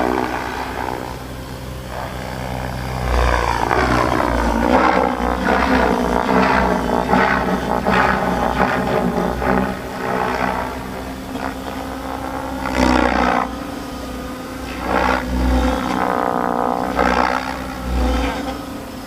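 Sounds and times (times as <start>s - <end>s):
rc helicopter rotor humming: 0.0s - 19.0s.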